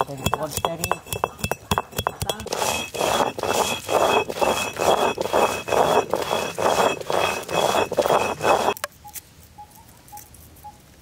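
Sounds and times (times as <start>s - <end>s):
stone roller grinding on slab: 0.0s - 8.9s.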